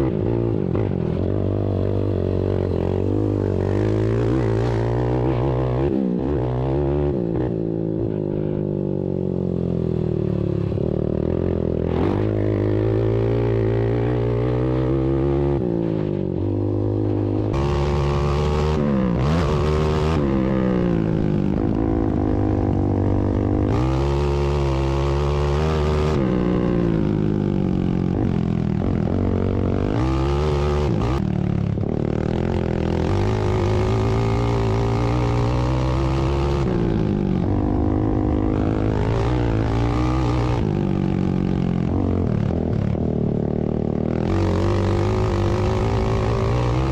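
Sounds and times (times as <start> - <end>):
atv engines revving: 0.0 - 46.9.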